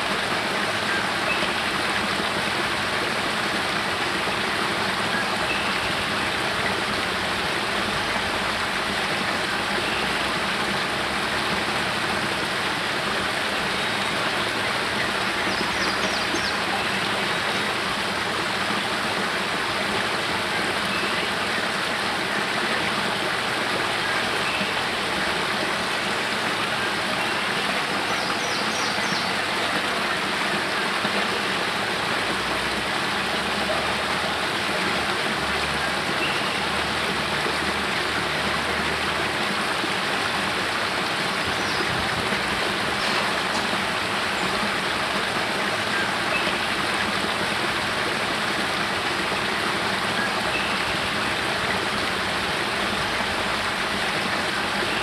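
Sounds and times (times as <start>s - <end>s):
water cascading over rocks: 0.0s - 55.0s.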